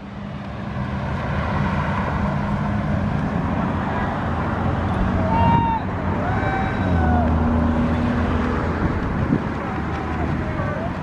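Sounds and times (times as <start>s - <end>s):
pickup truck driving past: 0.0s - 11.0s
road noise: 0.0s - 11.0s.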